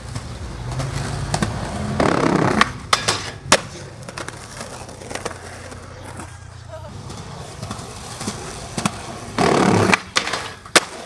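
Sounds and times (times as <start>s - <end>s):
skateboard clacks: 0.0s - 11.0s
skateboard scraping: 0.0s - 11.0s
skateboard wheels rolling on pavement: 0.0s - 11.0s.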